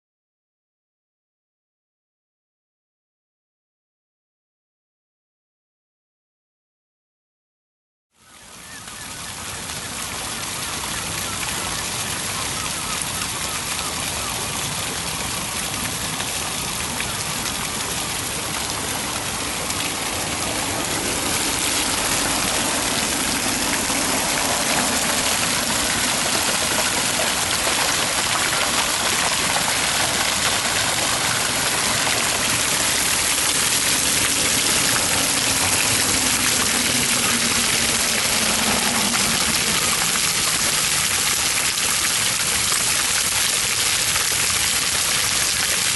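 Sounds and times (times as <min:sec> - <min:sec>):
fountain water splashing: 0:08.2 - 0:45.9.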